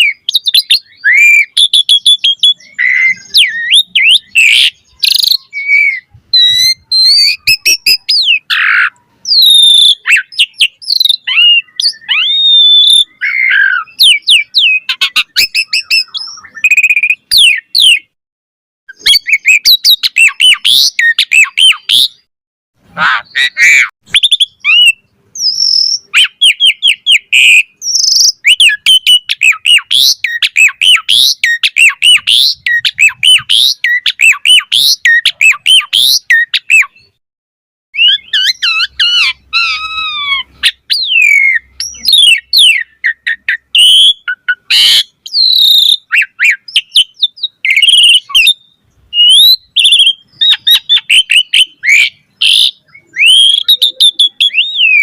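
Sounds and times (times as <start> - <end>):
starling singing varied whistles: 0.0 - 18.2, 18.9 - 22.3, 23.3 - 37.2, 38.0 - 55.0.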